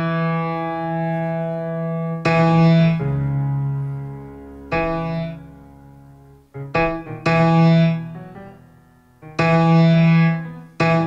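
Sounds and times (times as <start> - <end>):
piano playing slow chords: 0.0 - 11.0.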